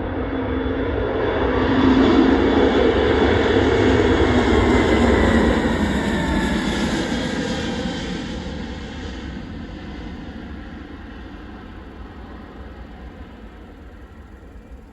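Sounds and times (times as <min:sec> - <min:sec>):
jet engines passing: 0:00.7 - 0:14.9.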